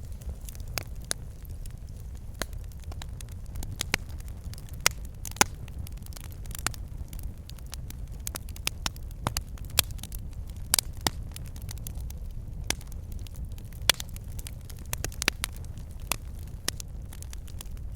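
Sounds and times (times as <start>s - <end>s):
logs crackling and popping: 0.0s - 17.9s
low rumble of flames: 0.0s - 17.9s.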